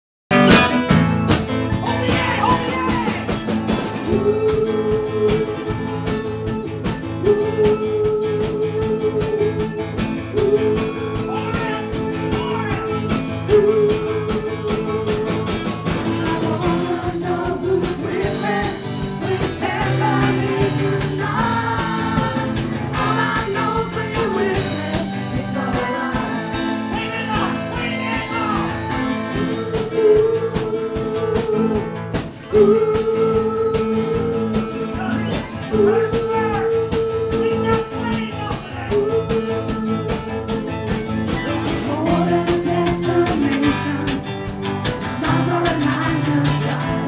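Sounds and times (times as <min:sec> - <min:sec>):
live band playing: 0:00.3 - 0:47.0.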